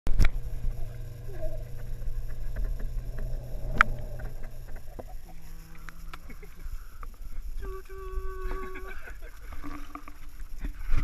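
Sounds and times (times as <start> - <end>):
water churning: 0.1 - 7.5, 8.6 - 11.0
jet pump humming: 0.1 - 10.7.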